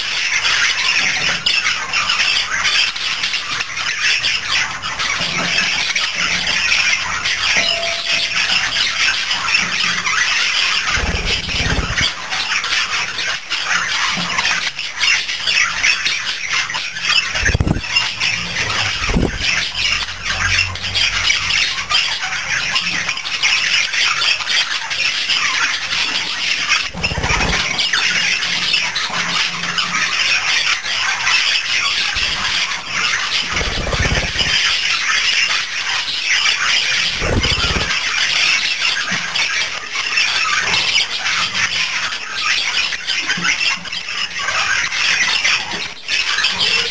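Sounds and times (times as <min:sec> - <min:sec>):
budgerigars chattering: 0:00.0 - 0:46.9.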